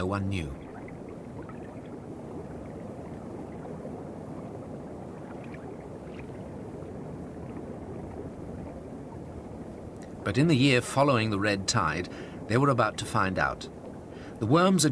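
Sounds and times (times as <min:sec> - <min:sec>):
underwater rushing water: 0:00.0 - 0:14.9.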